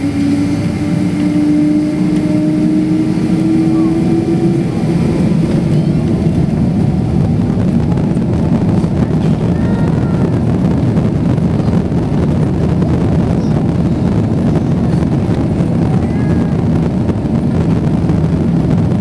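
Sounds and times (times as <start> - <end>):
jet engines from cabin: 0.0 - 19.0.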